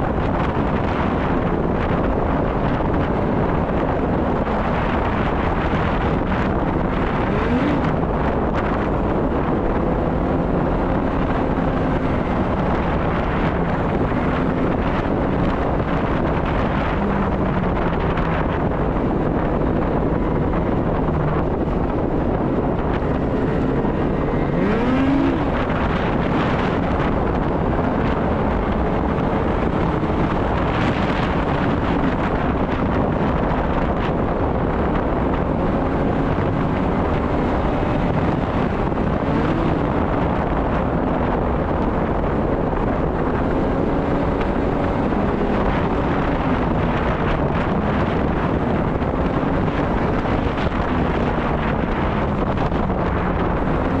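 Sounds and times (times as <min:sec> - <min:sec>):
snowmobile engine running: 0:00.0 - 0:54.0
wind noise on microphone: 0:00.0 - 0:54.0.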